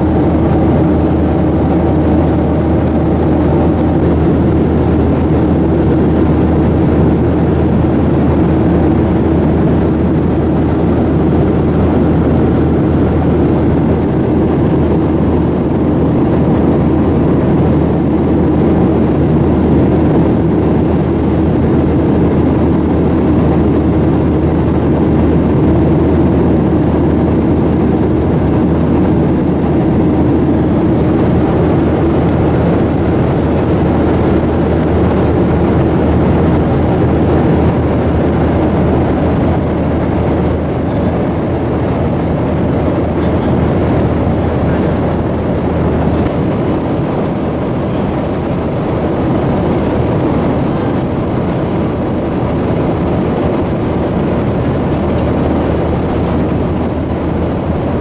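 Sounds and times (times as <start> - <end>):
airflow rushing: 0.0 - 58.0
jet engines droning: 0.0 - 58.0.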